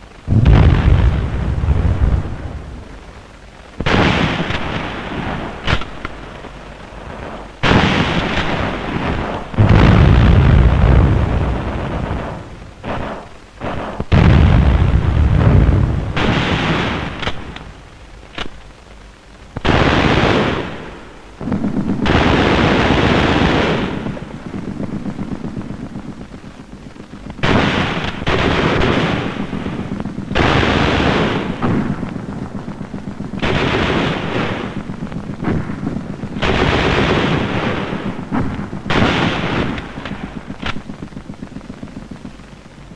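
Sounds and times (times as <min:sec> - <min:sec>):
heavy booms: 0:00.0 - 0:18.8, 0:19.5 - 0:42.9
gunfire: 0:03.8 - 0:06.5, 0:07.1 - 0:18.6, 0:19.6 - 0:25.8, 0:27.4 - 0:42.0.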